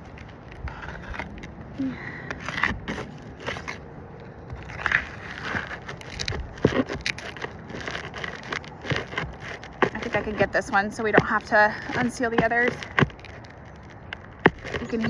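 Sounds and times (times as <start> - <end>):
shingles scraping and crackling: 0.0 - 15.0.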